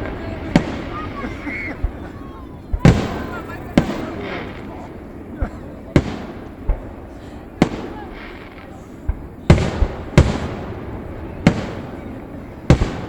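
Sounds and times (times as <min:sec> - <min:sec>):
echoing rumble: 0:00.0 - 0:13.0
fireworks booming: 0:00.0 - 0:13.0.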